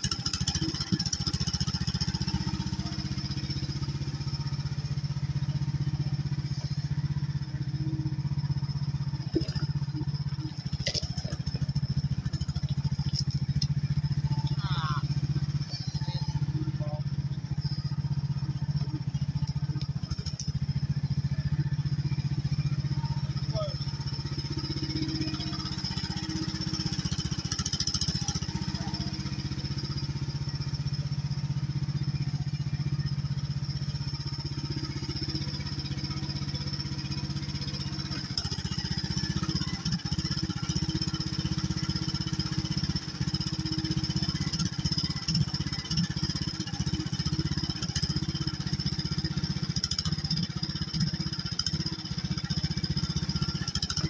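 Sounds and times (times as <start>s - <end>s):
mini excavator engine running: 0.0s - 54.0s.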